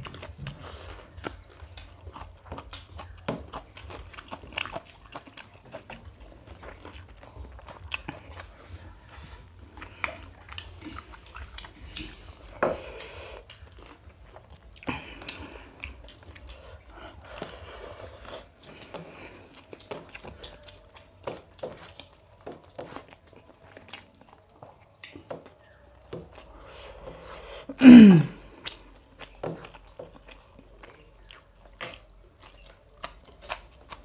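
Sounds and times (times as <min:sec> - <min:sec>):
people chewing food: 0:00.0 - 0:34.0.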